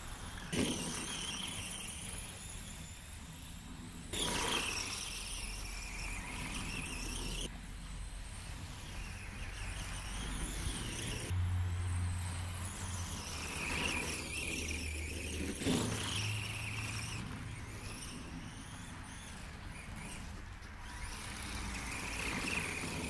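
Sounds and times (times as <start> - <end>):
electric motor and gears whining: 0.0 - 23.0
tyres churning through snow: 0.0 - 23.0.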